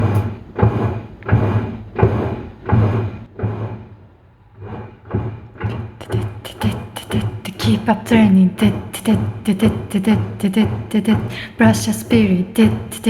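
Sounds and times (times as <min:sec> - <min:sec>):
washing machine swishing thumps: 0:00.0 - 0:13.0.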